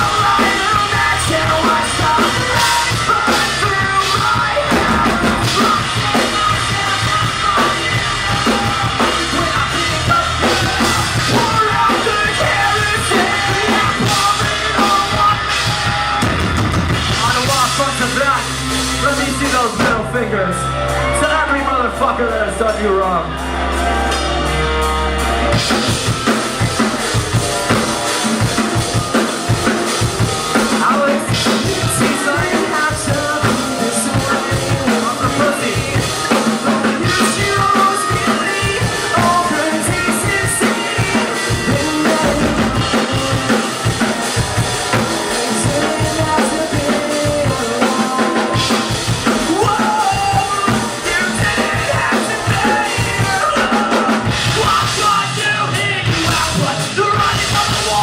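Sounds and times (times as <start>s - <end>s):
bass drum and snare: 0.0s - 20.0s, 25.4s - 58.0s
live band playing: 0.0s - 58.0s.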